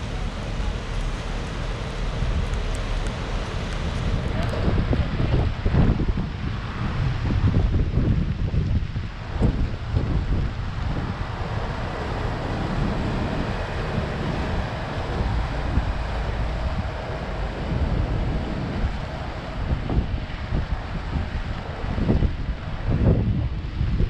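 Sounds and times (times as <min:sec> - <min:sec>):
city street traffic noise: 0:00.0 - 0:24.0
wind buffeting microphone: 0:00.0 - 0:24.0.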